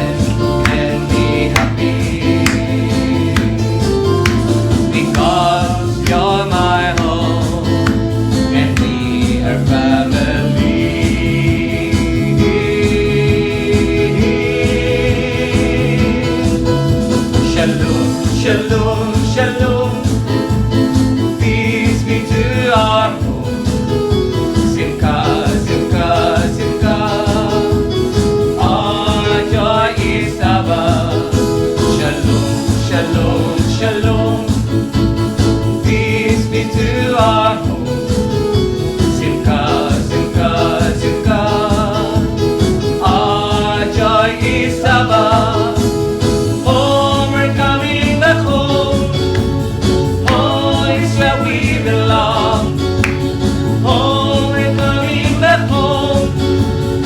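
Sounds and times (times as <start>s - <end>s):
gospel worship song with band: 0.0s - 57.0s.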